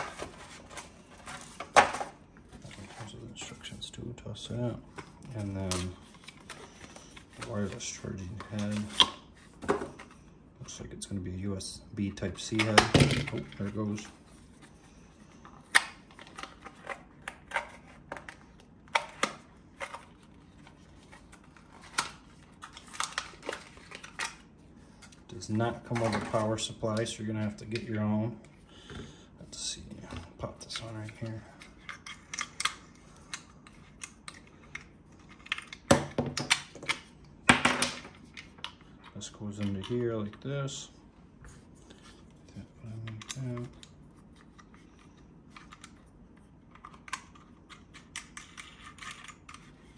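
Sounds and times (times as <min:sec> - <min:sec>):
packaging handling clicks and rustles: 0:00.0 - 0:10.8, 0:15.3 - 0:28.4, 0:29.5 - 0:40.8, 0:42.8 - 0:49.9.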